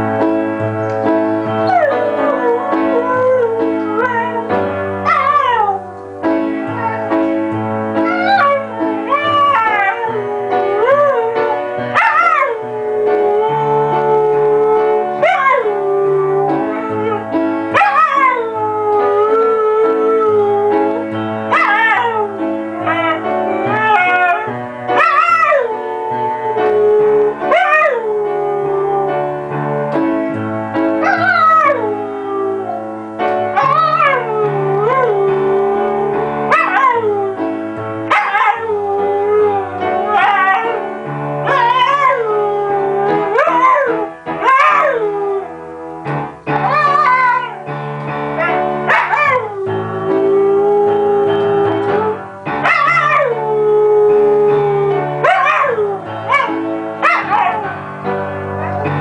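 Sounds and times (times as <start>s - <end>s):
piano chords: 0.0s - 59.0s
husky howling: 1.6s - 5.8s, 8.0s - 29.3s, 31.0s - 32.9s, 33.5s - 37.5s, 38.1s - 45.6s, 46.6s - 47.6s, 48.4s - 57.8s.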